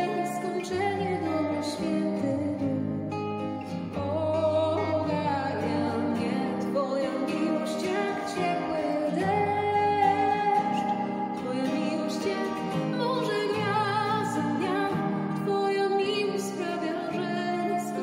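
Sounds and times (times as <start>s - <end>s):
acoustic guitar: 0.0s - 18.0s
woman singing into microphone: 0.0s - 18.0s.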